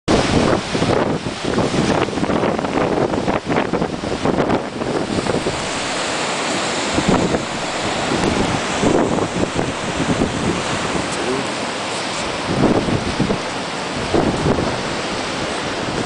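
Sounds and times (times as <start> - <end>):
rushing wind: 0.1 - 16.0
surf: 0.1 - 16.0
wind gusting on microphone: 0.1 - 16.0.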